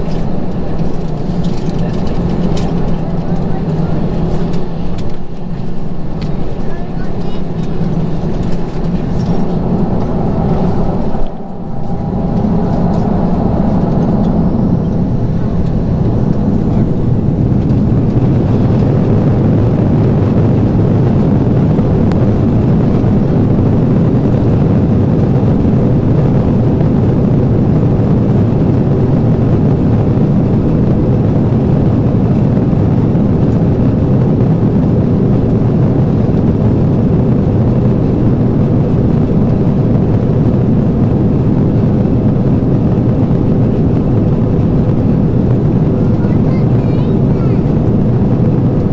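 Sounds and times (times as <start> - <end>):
jet engine roar in cabin: 0.0 - 48.9.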